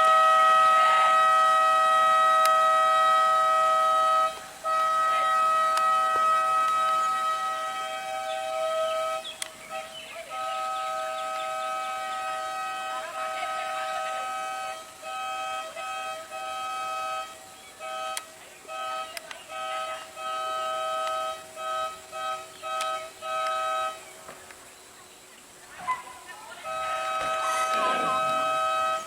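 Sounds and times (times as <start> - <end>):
two-tone vehicle horn: 0.0 - 24.2, 26.6 - 29.0.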